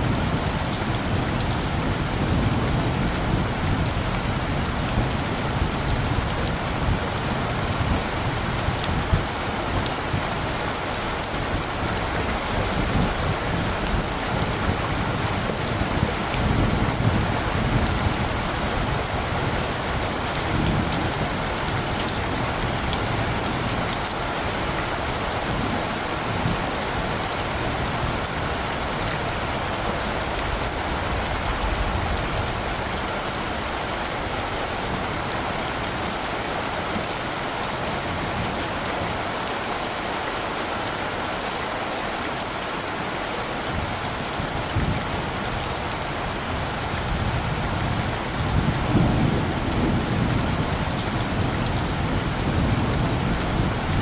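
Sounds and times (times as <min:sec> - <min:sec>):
heavy rain hiss: 0:00.0 - 0:54.0
raindrops ticking on surfaces: 0:00.0 - 0:54.0.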